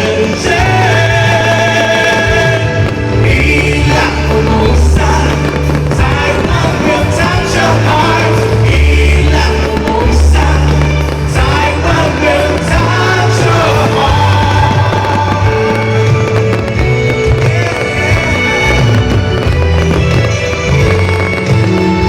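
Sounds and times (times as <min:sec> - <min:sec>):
song with heavy bass: 0:00.0 - 0:22.0.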